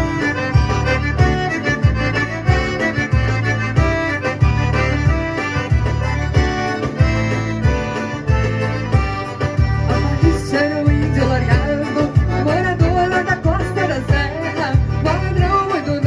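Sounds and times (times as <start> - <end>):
accordion dance tune: 0.0 - 16.0.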